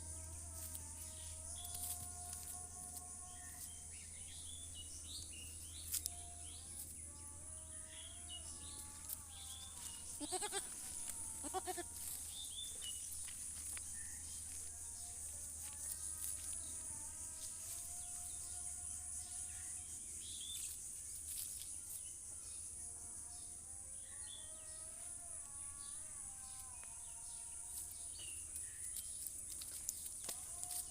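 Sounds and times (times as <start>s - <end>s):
insect chirring: 0.0s - 30.9s.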